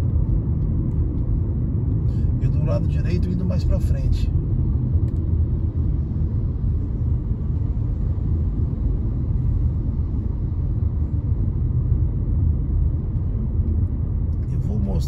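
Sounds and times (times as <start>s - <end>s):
car driving heard from inside: 0.0s - 15.0s.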